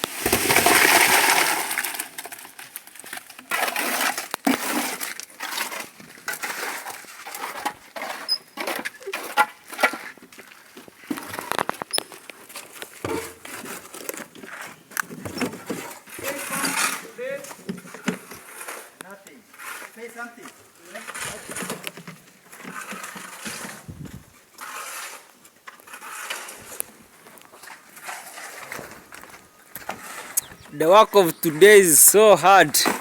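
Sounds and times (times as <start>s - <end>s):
scraping and knocking of concrete work: 0.0s - 30.7s.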